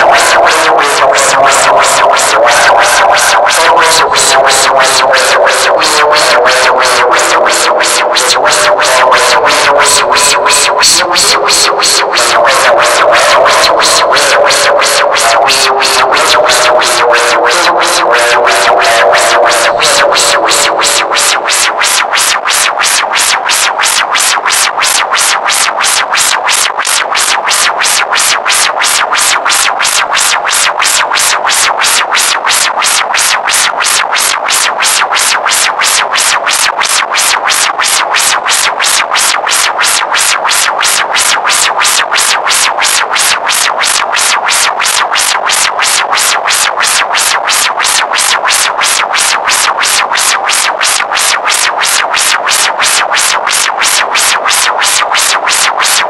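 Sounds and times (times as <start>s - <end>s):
electronic synthesizer loop: 0.0s - 56.0s.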